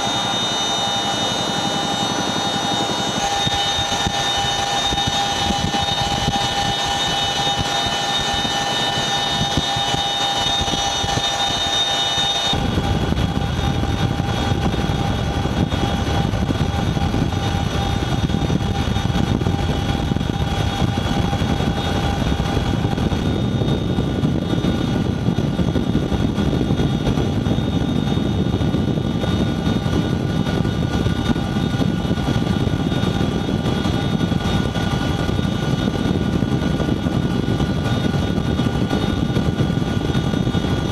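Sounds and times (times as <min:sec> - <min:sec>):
helicopter rotor and engine drone: 0:00.0 - 0:40.9
helicopter turbine whine: 0:00.0 - 0:40.9.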